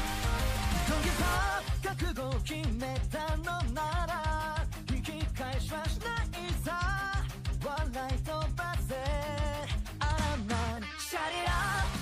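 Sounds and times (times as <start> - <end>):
music with fast drum beat: 0.0 - 12.0.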